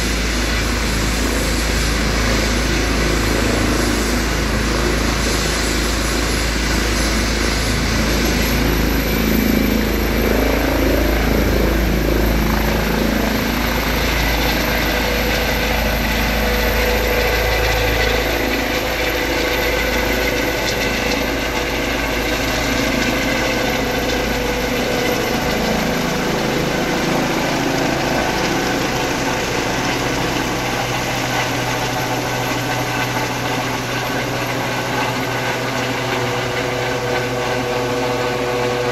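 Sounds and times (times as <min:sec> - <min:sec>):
helicopter rotor rumble: 0:00.0 - 0:38.9
helicopter turbine whine: 0:00.0 - 0:38.9.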